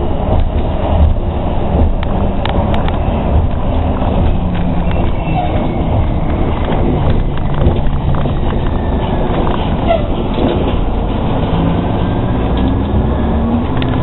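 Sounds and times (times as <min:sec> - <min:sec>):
bus interior drone: 0:00.0 - 0:14.0
low pitch-shifting tones: 0:00.0 - 0:14.0.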